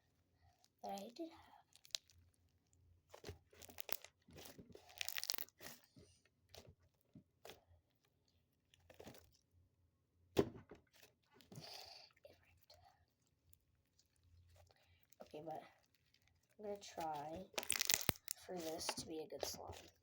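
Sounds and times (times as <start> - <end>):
slime with foam crunching: 0.0 - 9.6, 10.9 - 20.0.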